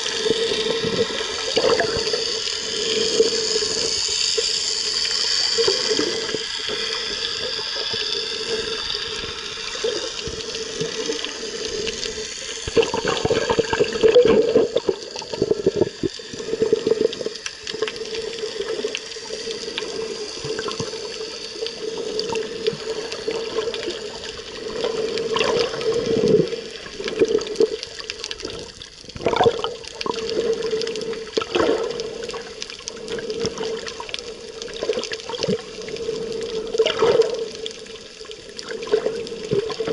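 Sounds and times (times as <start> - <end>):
muffled underwater rushing water: 0.0 - 39.9
clicks and crackles: 0.2 - 39.9.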